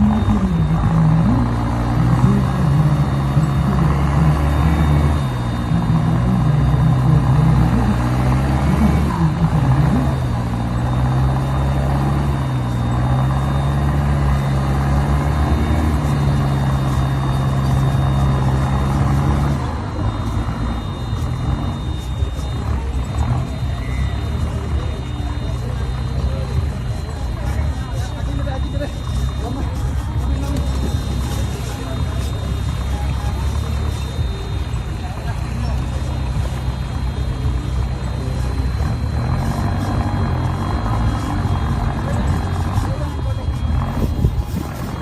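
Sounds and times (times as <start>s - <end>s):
off-road engine revving in mud: 0.0s - 45.0s.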